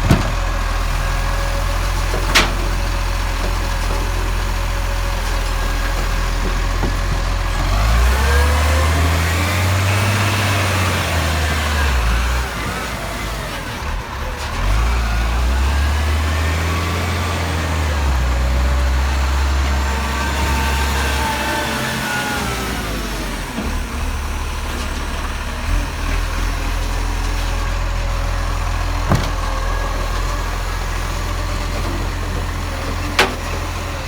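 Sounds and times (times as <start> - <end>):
garbage truck diesel engine: 0.0 - 34.0.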